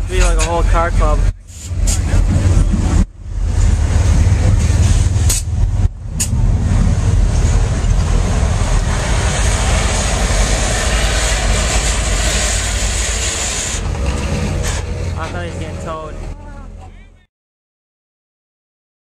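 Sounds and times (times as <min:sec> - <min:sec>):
car engines driving past: 0:00.5 - 0:17.2.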